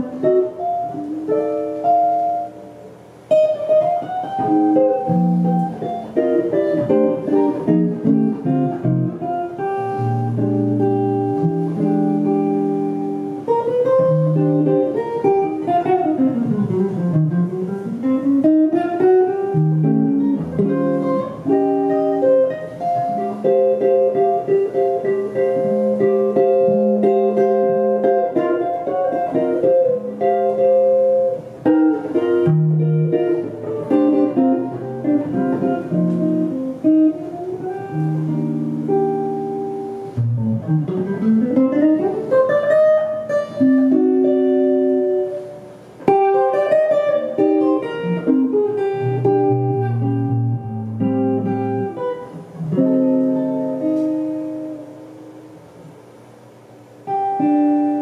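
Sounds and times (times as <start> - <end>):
clean electric guitar: 0.0 - 58.0.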